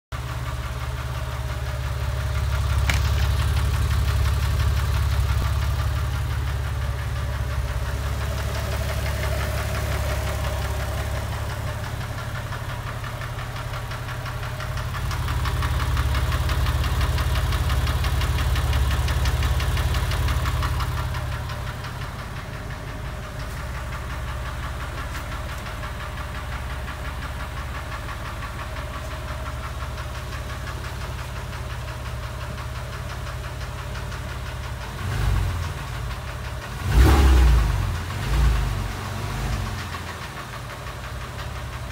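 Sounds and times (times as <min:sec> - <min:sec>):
car engine idling: 0:00.1 - 0:41.9
fast engine ticking: 0:00.1 - 0:41.9.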